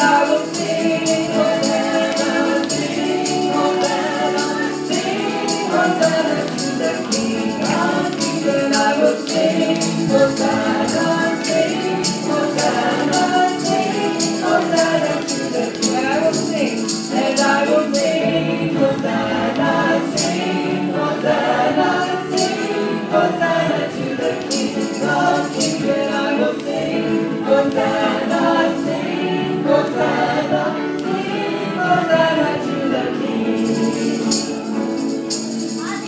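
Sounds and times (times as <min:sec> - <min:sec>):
grand piano: 0:00.0 - 0:36.0
group of voices singing: 0:00.0 - 0:36.0.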